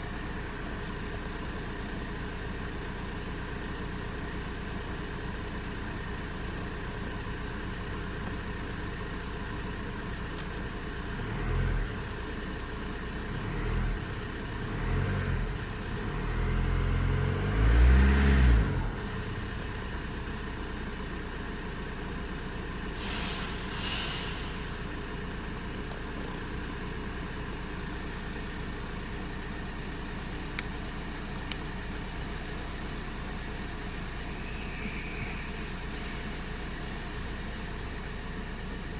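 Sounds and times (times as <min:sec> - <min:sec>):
diesel car engine idling and revving: 0:00.0 - 0:38.9.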